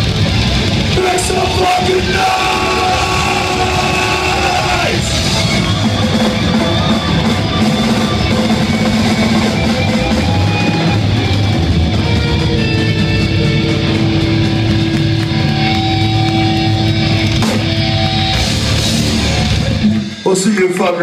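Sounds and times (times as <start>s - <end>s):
distorted electric guitars: 0.0s - 21.0s
pounding drum kit: 0.0s - 21.0s.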